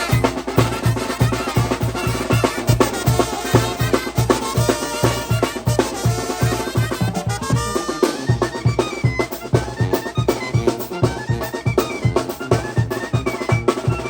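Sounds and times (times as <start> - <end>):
band playing music: 0.0 - 14.0
bass drum beat: 0.0 - 14.0.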